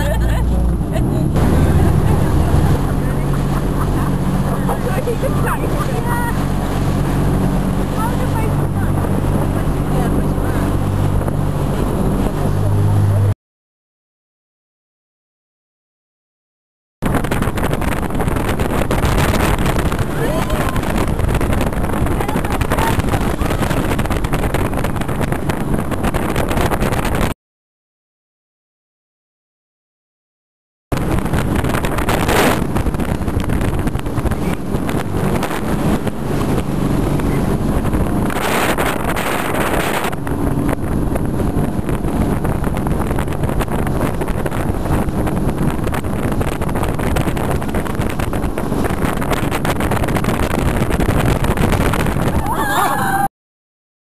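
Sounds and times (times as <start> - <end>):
speedboat engine running: 0.0 - 13.3, 17.0 - 27.3, 30.9 - 53.3
wind buffeting microphone: 0.0 - 13.3, 17.0 - 27.4, 30.9 - 53.3
water noise: 0.0 - 13.4, 17.0 - 27.4, 30.9 - 53.3.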